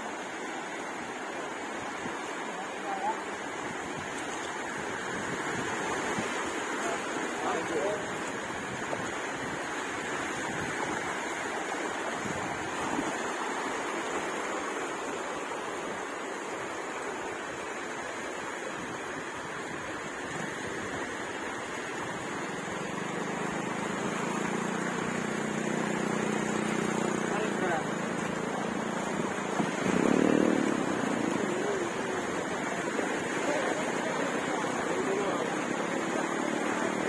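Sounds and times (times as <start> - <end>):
small waves washing in surf: 0.0 - 37.0.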